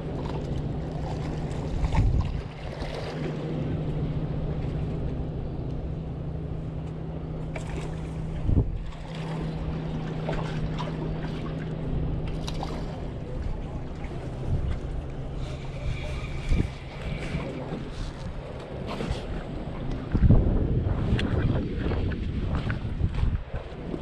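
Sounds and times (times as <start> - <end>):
wind on microphone: 0.0 - 5.0, 7.6 - 11.6, 12.3 - 24.0
motorboat engine humming: 0.0 - 24.0.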